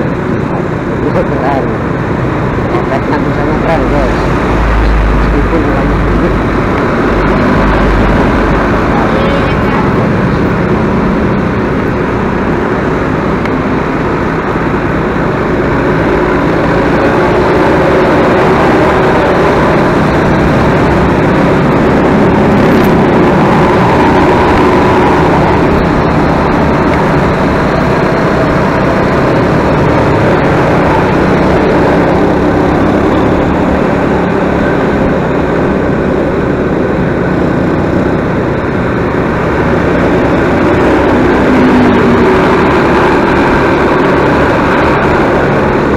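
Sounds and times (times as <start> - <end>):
road noise: 0.0 - 45.9
vehicle engine hum: 0.0 - 45.9.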